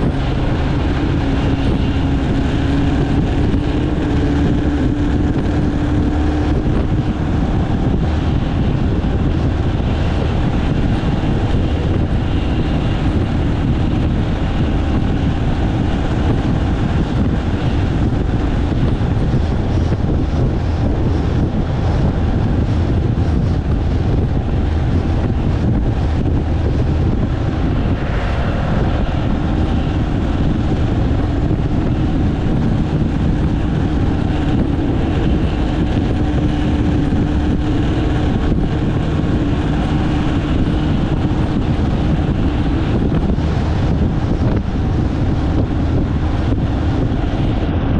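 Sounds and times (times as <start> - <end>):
vehicle engine drone: 0.0 - 47.9.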